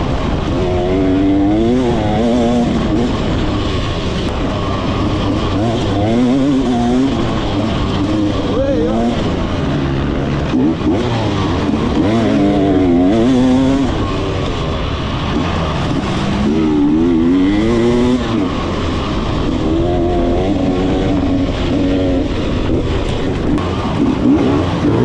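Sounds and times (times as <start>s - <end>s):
dirt bike engine revving: 0.0s - 25.0s
wind noise: 0.0s - 25.0s.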